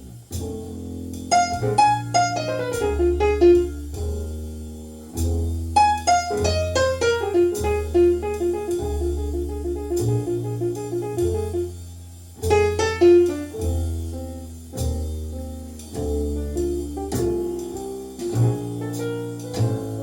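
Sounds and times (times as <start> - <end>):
jazz piano runs: 0.0 - 20.0
low bass notes: 0.0 - 20.0.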